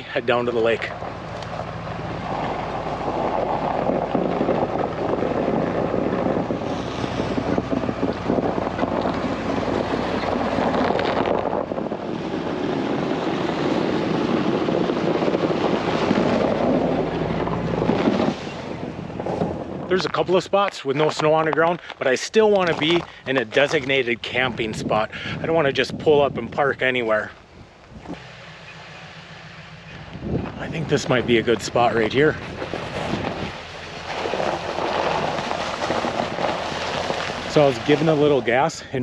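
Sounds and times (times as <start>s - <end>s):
wind buffeting microphone: 0.0s - 21.8s, 22.4s - 39.0s
engine running low: 0.0s - 39.0s
tyres crunching through snow: 0.0s - 39.0s.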